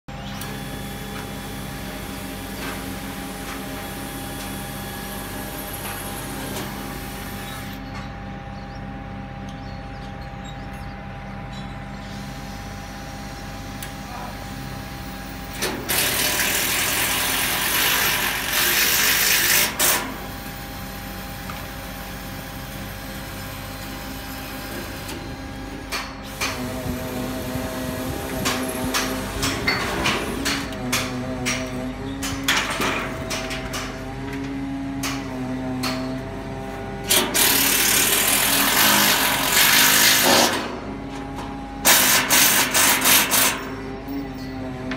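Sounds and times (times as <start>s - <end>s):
crane engine and hydraulic hum: 0.0s - 44.9s.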